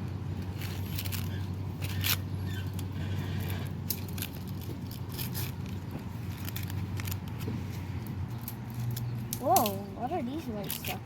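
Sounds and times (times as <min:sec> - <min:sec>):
corn husks crackling and snapping: 0:00.0 - 0:11.0
steady low hum: 0:00.0 - 0:11.0.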